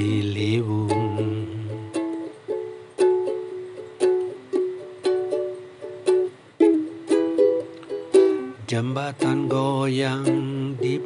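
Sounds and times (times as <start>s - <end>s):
ukulele strumming chords: 0.0s - 11.0s.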